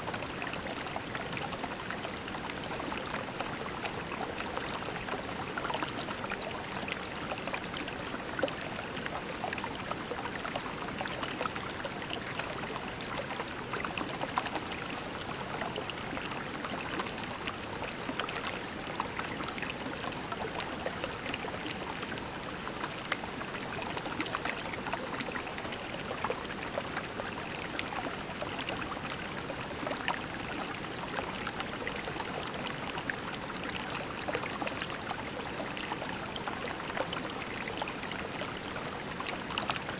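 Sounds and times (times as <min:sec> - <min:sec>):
creek babbling over pebbles: 0:00.0 - 0:39.9.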